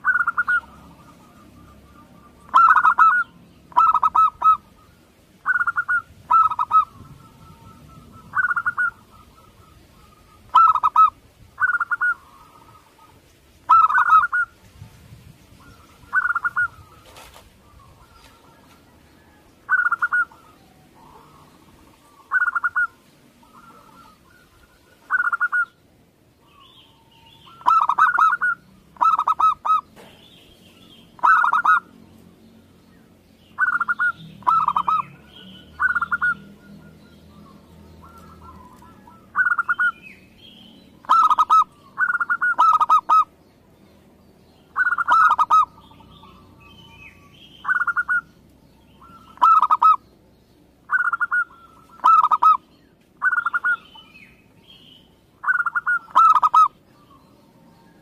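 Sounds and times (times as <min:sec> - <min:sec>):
dove cooing: 0:00.0 - 0:14.6, 0:15.6 - 0:25.8, 0:26.5 - 0:30.1, 0:31.2 - 0:31.9, 0:33.6 - 0:40.1, 0:41.0 - 0:43.3, 0:44.8 - 0:47.0, 0:47.6 - 0:48.3, 0:49.0 - 0:50.0, 0:50.9 - 0:54.1, 0:55.4 - 0:58.0.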